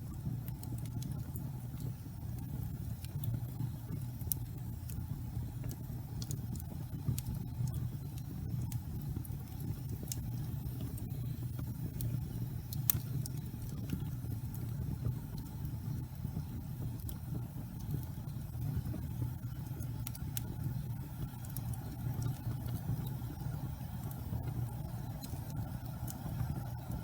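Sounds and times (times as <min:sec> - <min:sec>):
fire crackles and pops: 0:00.0 - 0:27.0
fire rumbling: 0:00.0 - 0:27.0.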